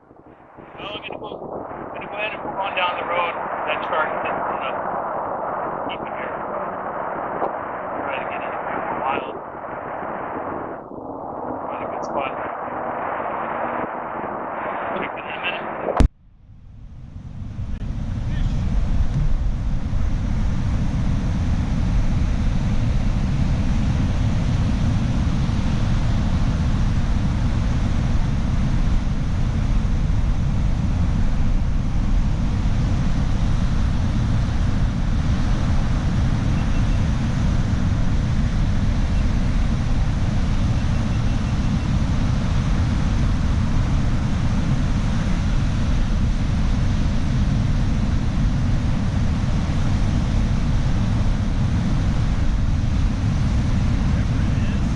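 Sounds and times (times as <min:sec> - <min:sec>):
road and wind noise: 0:00.0 - 0:16.1, 0:16.7 - 0:54.9.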